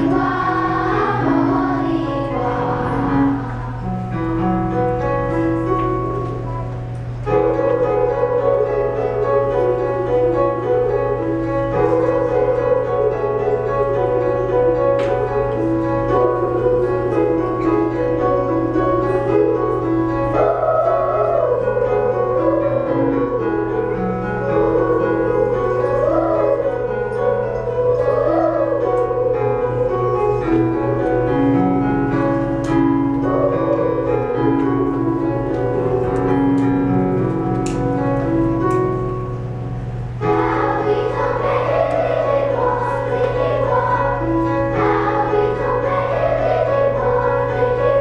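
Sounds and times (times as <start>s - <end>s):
wavering melody line: 0.0s - 39.5s, 40.2s - 48.0s
piano sustained notes: 0.0s - 48.0s.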